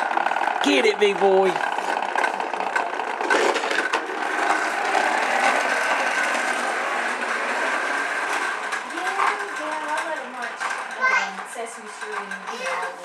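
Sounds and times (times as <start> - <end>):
toy lawn mower clattering: 0.0 - 13.0.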